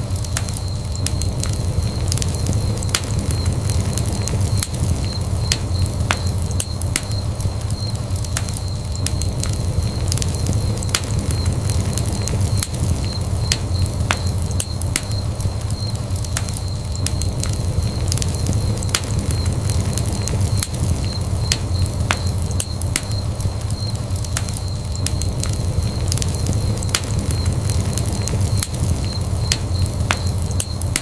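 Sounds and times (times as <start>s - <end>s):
fire crackling and popping: 0.0s - 31.0s
fire rumbling: 0.0s - 31.0s.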